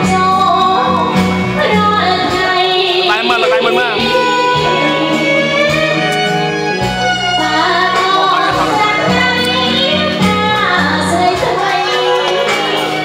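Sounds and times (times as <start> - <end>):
woman singing with instruments: 0.0 - 6.3, 7.2 - 13.0.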